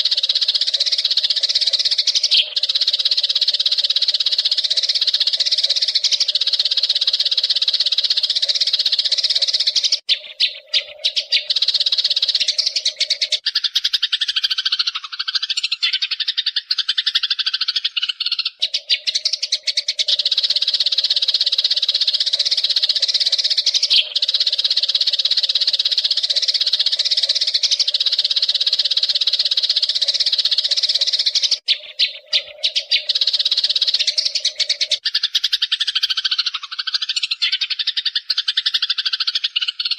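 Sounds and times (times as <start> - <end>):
low warbling birdsong: 0.0 - 39.9
sparrows chattering: 0.0 - 39.9.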